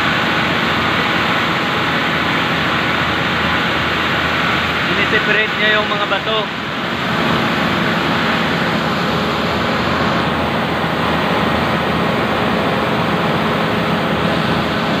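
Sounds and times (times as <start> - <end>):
milling machines droning: 0.0 - 15.0.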